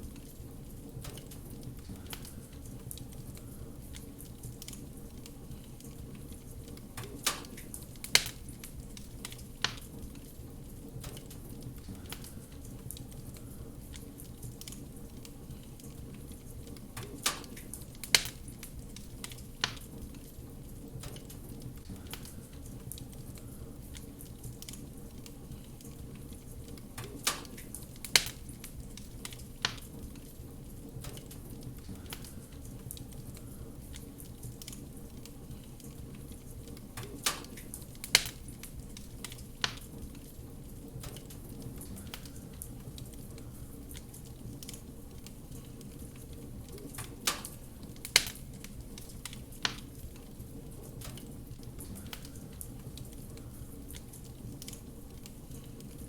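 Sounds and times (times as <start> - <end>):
fire burning rumble: 0.0 - 56.0
fire crackling and popping: 0.0 - 56.0.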